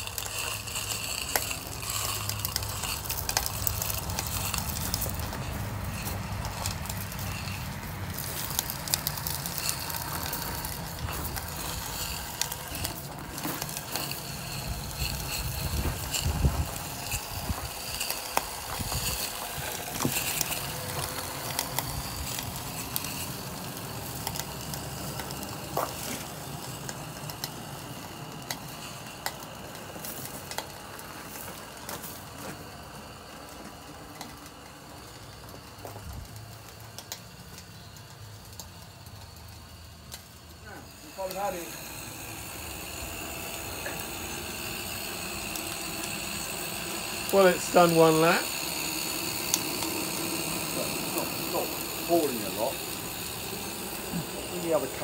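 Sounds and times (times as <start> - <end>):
rapid mechanical clatter: 0.0 - 55.0
steam sizzle: 0.0 - 55.0.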